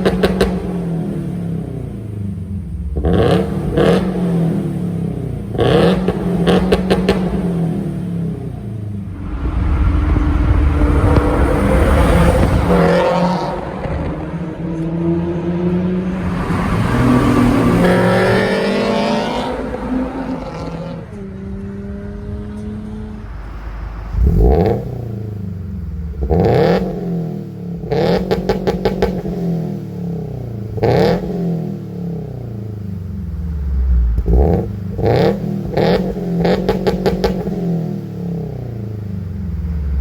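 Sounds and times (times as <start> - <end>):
exhaust crackles: 0.0 - 15.1, 15.9 - 40.0
car engine revving: 0.0 - 40.0.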